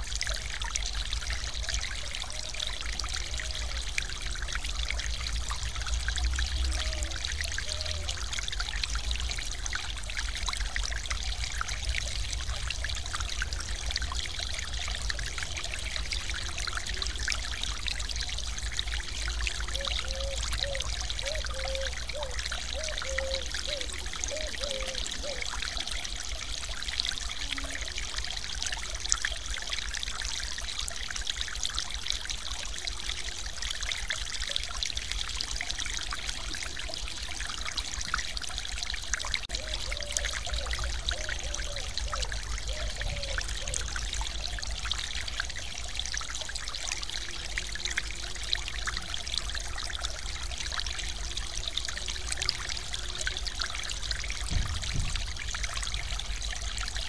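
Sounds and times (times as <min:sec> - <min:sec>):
stream splashing over weir: 0:02.2 - 0:57.0.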